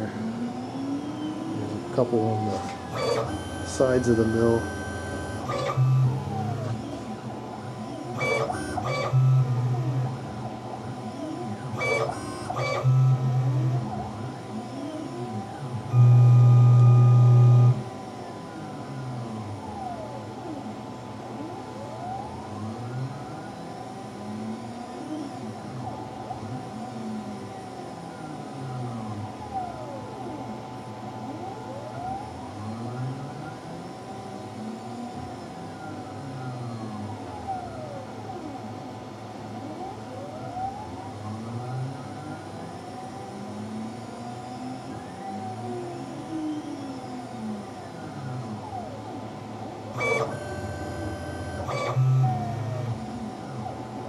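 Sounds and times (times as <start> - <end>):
milling machine motors whining: 0.0 - 54.0.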